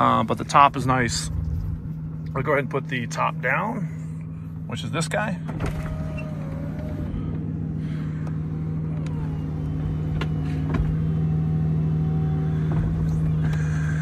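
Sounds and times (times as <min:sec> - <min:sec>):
car engine idling: 0:00.0 - 0:14.0
convertible roof mechanical hum: 0:00.0 - 0:14.0.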